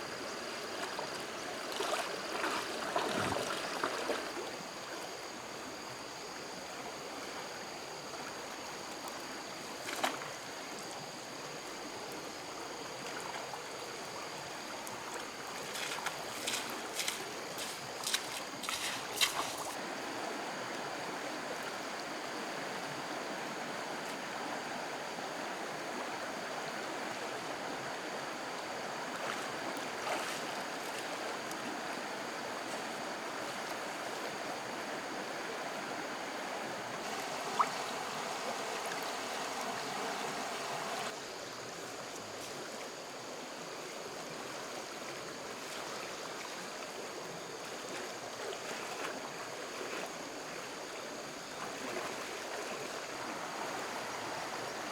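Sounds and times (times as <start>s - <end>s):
stream water rushing: 0.0s - 6.0s, 12.9s - 54.9s.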